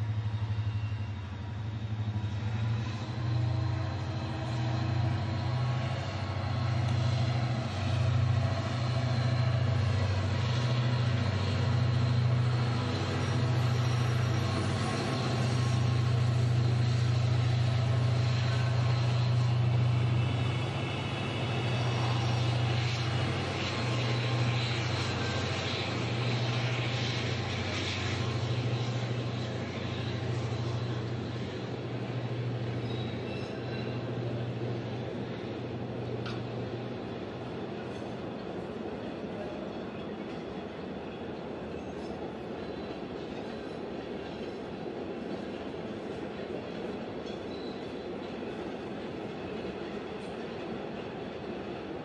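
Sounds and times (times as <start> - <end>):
diesel locomotive engine drone: 0.0 - 52.0
rail noise: 0.0 - 52.0.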